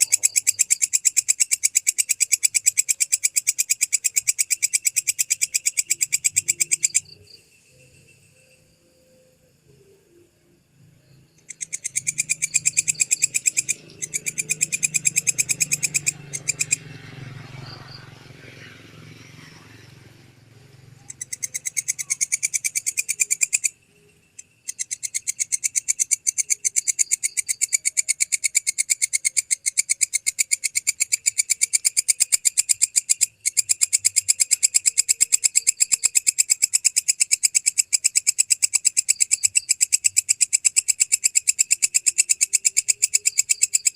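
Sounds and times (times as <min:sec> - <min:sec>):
insect rasping chirps: 0:00.0 - 0:43.9.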